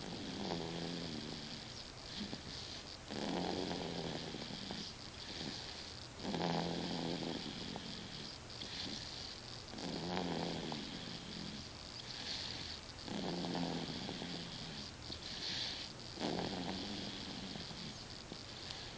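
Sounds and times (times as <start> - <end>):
low rough snore: 0.0 - 18.9.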